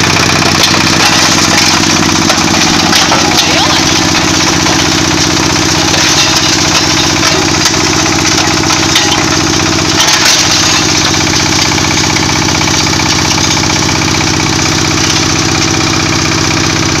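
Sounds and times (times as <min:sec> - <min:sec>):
diesel engine running: 0:00.0 - 0:17.0
sharp clicks and rattles: 0:00.0 - 0:17.0.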